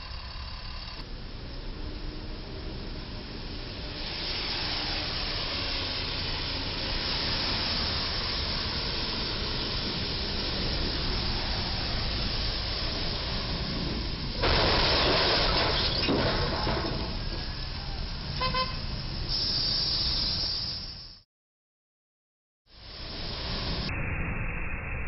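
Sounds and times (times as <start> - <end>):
tyres hissing on wet road: 1.0 - 21.2, 22.7 - 23.9.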